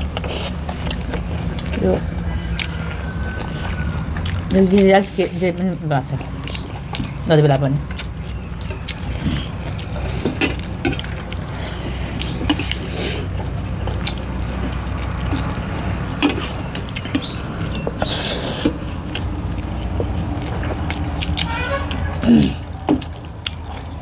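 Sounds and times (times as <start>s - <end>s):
chewing with wet mouth clicks: 0.0s - 24.0s.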